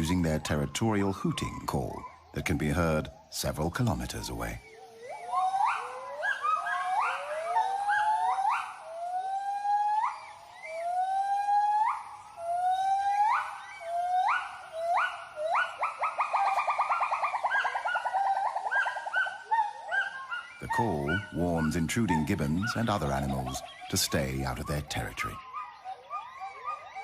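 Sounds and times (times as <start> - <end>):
gibbons whooping call: 0.0 - 27.0.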